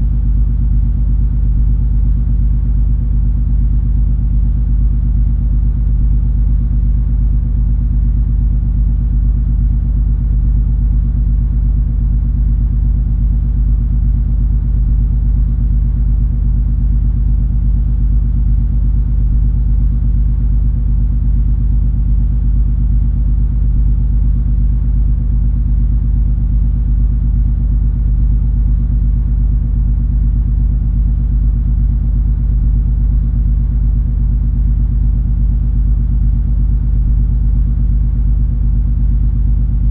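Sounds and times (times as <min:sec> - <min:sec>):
low multi-tone hum: 0:00.0 - 0:06.2, 0:09.1 - 0:39.9.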